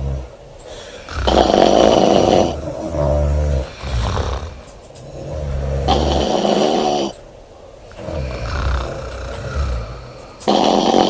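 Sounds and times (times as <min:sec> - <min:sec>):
woman snoring loudly: 0:00.0 - 0:00.3, 0:01.1 - 0:07.2, 0:07.9 - 0:11.0.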